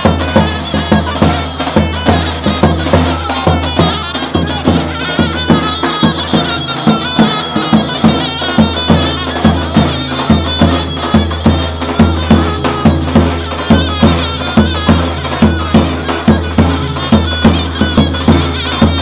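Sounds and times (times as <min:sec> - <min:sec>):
bass drum steady beat: 0:00.0 - 0:19.0
high wavering reed pipe melody: 0:00.0 - 0:19.0.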